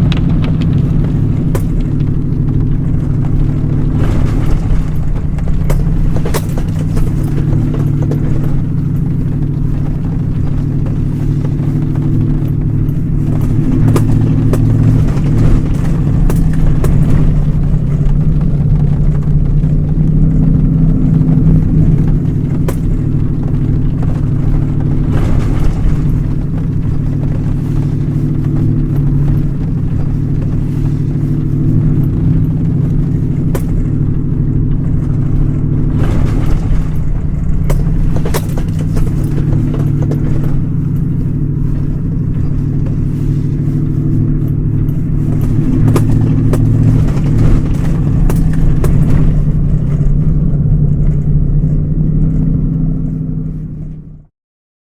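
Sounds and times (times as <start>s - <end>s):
vehicle engine idling: 0.0s - 54.3s.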